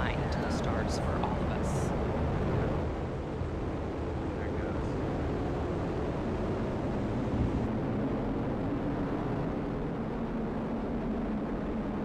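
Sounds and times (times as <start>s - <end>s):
rocket engines rumbling: 0.0s - 12.0s.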